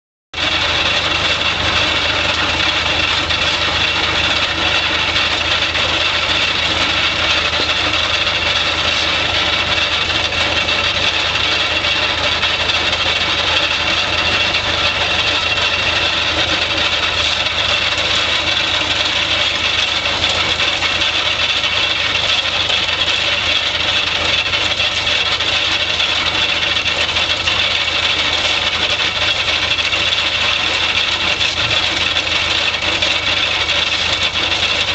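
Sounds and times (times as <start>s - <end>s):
fast mechanical clatter: 0.4s - 34.9s
tractor engines running: 0.4s - 34.9s.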